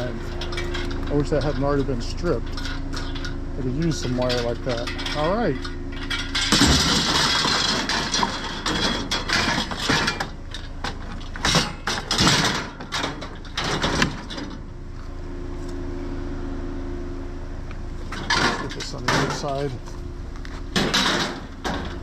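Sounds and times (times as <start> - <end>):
scrap metal rattling and clunking: 0.0 - 14.8, 18.0 - 22.0
vehicle engine idling: 0.0 - 22.0.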